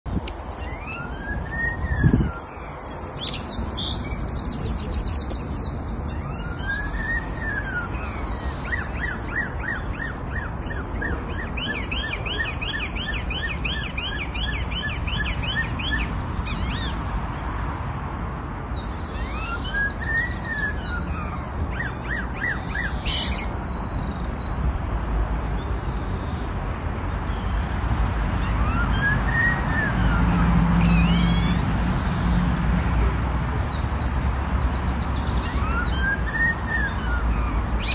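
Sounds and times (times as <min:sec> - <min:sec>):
bird twittering chirps: 0:00.5 - 0:27.6, 0:28.4 - 0:37.9.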